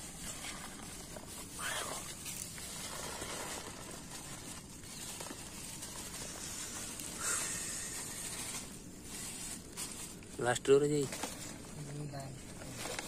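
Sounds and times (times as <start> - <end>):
plastic sack rustling: 0.0 - 13.0.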